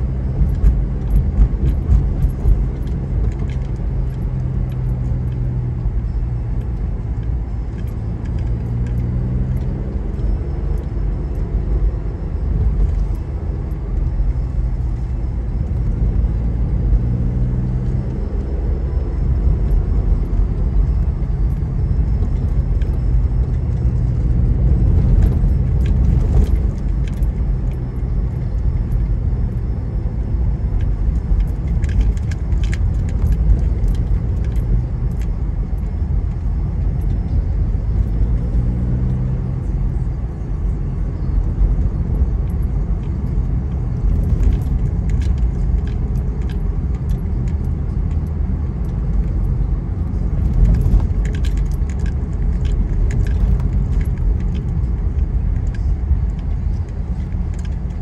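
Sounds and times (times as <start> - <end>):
light rattles and clicks: 0.0 - 9.7, 19.4 - 29.7, 30.4 - 58.0
car engine hum: 0.0 - 58.0.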